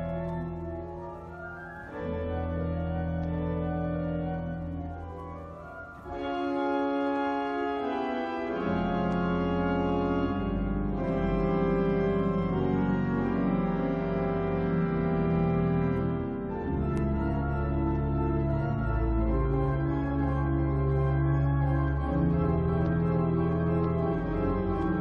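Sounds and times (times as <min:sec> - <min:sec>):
low organ pedal notes: 0:00.0 - 0:25.0
organ playing slow chords: 0:00.0 - 0:25.0.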